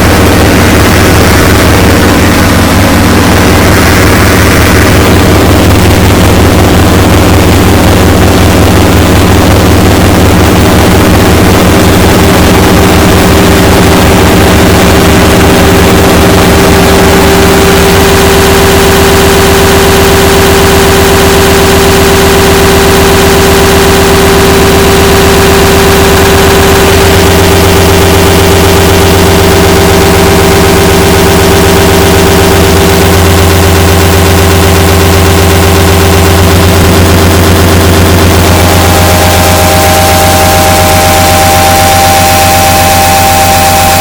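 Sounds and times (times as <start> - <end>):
harsh noise music: 0.0 - 44.0
mid-pitched drone: 0.0 - 44.0.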